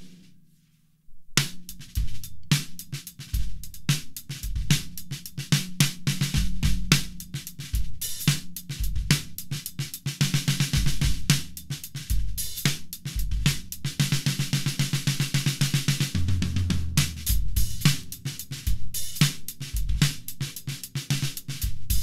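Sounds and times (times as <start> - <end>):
snare drum strokes: 0.0 - 0.4, 1.4 - 22.0.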